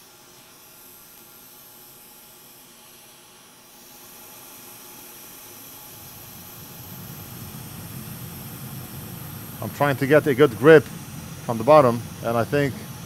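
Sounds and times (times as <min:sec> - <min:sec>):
hot air hissing: 0:00.0 - 0:13.0.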